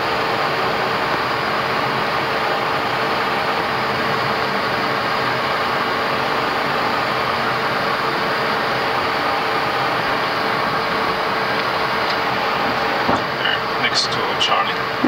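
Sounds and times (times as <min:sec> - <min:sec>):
aircraft engines idling rush: 0:00.0 - 0:15.0.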